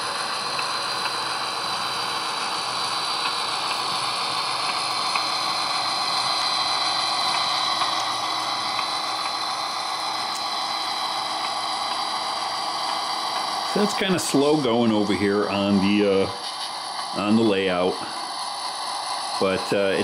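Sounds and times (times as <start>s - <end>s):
model locomotive diesel drone: 0.0s - 20.0s.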